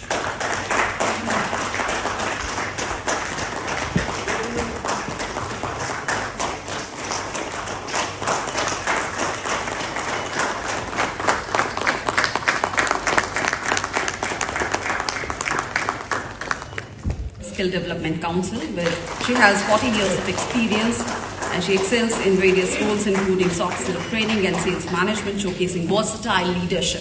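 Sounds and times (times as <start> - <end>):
audience applauding: 0.0 - 17.0, 18.6 - 25.6.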